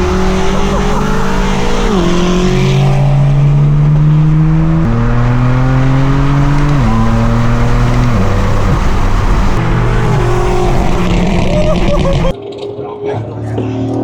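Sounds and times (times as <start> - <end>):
car exhaust droning: 0.0 - 12.4.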